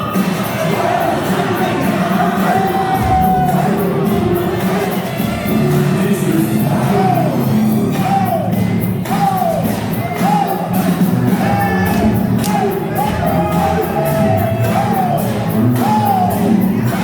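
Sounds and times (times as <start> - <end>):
loud music with singing and beat: 0.0 - 17.0.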